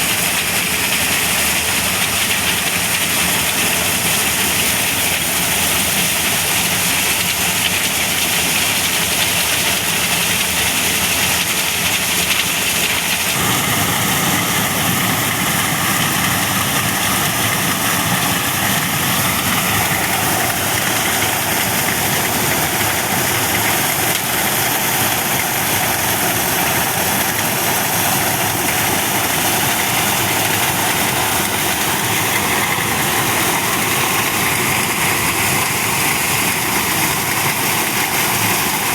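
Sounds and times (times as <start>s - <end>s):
corn sheller mechanical drone: 0.0s - 38.9s.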